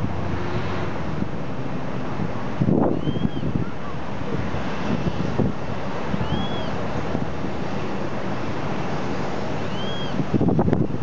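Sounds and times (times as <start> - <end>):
steady rumbling noise: 0.0 - 11.0
wind buffeting microphone: 0.0 - 11.0.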